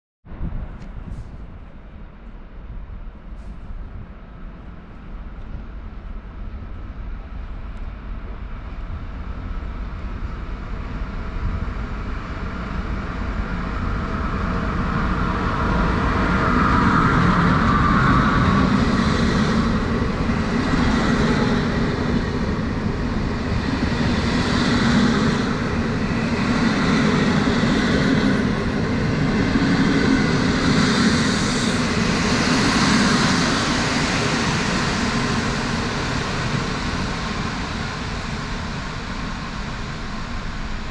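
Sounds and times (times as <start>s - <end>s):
train rolling past: 0.3s - 40.9s.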